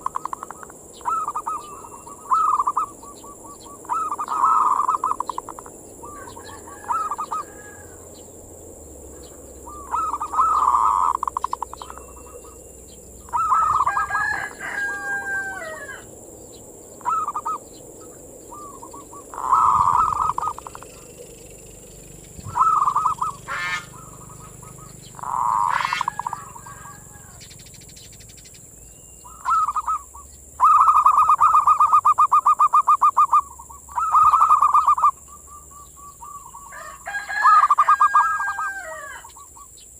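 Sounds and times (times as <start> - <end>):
dove cooing: 0.0 - 8.4, 9.0 - 28.3, 29.2 - 39.8
bird calls: 0.0 - 39.9.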